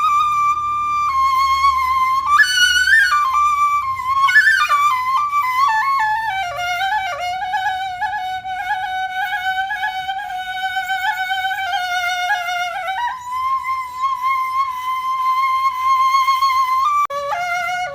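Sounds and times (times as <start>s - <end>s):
flute melody: 0.0s - 17.9s.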